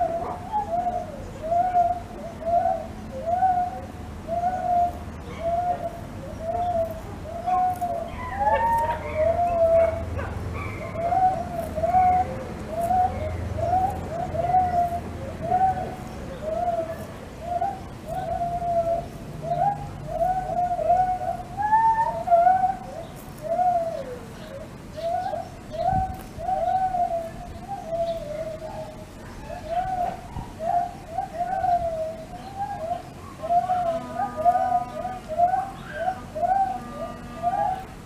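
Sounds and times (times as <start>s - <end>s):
birds calling: 0.0s - 38.0s.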